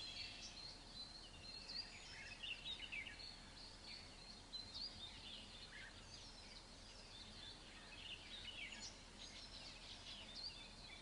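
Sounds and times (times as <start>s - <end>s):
low background hiss: 0.0s - 11.0s
small birds chirping: 0.0s - 11.0s.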